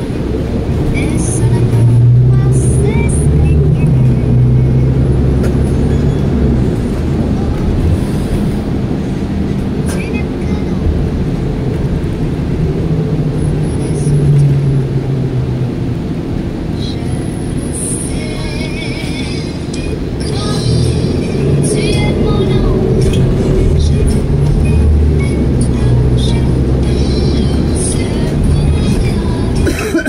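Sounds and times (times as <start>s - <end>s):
bus engine drone: 0.0s - 30.0s
road rumble: 0.0s - 30.0s.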